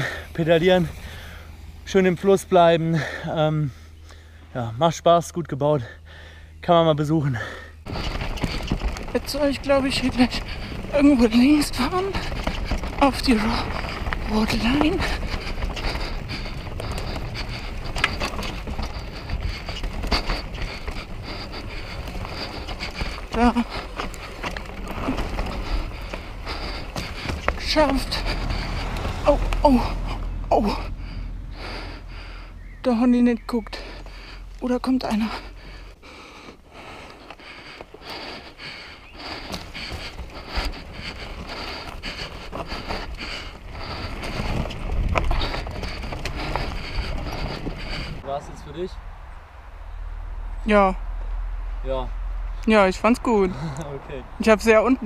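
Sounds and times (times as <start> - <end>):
bike rattling: 0.0 - 4.4, 5.8 - 55.0
bike tyres rolling on dirt: 0.0 - 55.0
wind buffeting microphone: 7.8 - 55.0.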